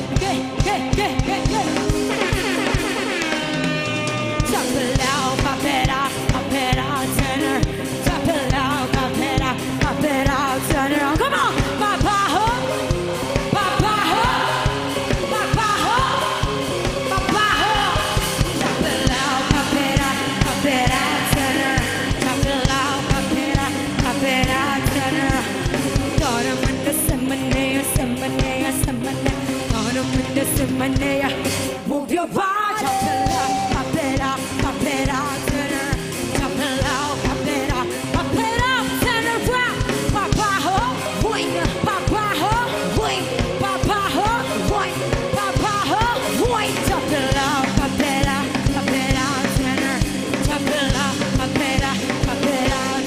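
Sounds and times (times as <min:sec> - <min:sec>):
steady drum beat: 0:00.0 - 0:31.7, 0:32.8 - 0:53.0
live pop-rock band playing: 0:00.0 - 0:53.0
woman singing into a microphone: 0:00.0 - 0:53.0.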